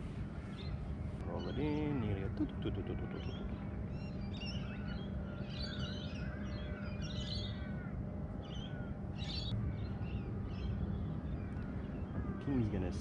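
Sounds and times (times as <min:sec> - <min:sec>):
low background rumble: 0:00.0 - 0:13.0
birds chirping and calling: 0:00.2 - 0:13.0.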